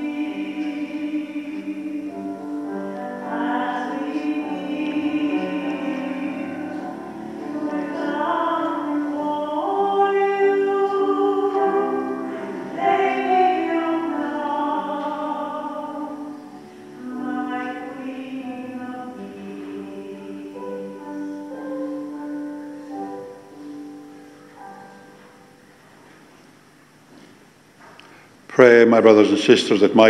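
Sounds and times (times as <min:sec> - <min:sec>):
hymn singing: 0:00.0 - 0:25.8.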